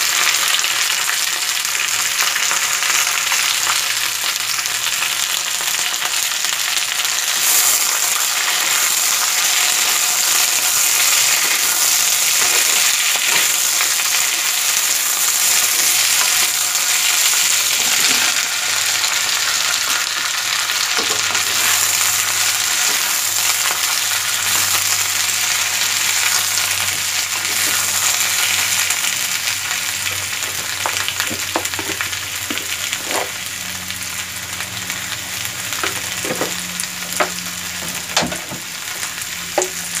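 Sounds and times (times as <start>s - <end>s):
vegetables sizzling in oil: 0.0s - 40.0s.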